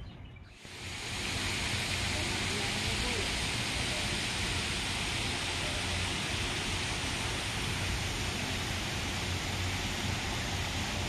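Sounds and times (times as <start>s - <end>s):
fountain water splashing: 0.6s - 11.0s.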